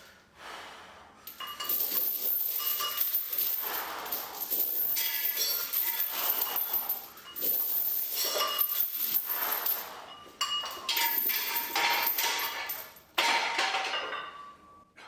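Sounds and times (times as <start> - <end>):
metal weight plates clanking: 2.6 - 14.7.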